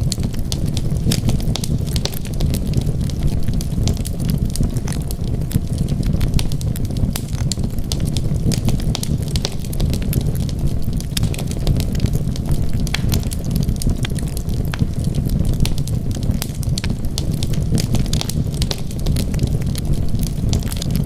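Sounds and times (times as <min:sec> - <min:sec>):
fire crackling in fireplace: 0:00.0 - 0:21.0.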